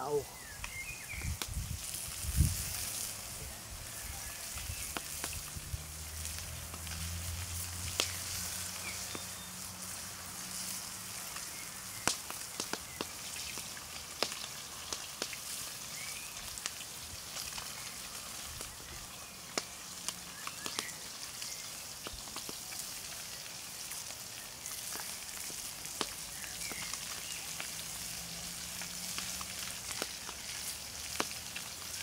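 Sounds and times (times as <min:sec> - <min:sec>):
campfire crackling and popping: 0:00.0 - 0:32.0
fish sizzling over fire: 0:00.0 - 0:32.0.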